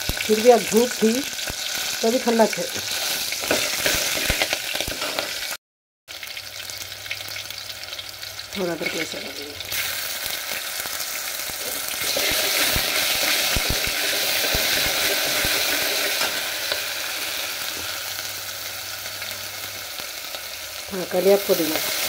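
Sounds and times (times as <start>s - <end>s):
hot oil sizzling in a pot: 0.0s - 22.0s.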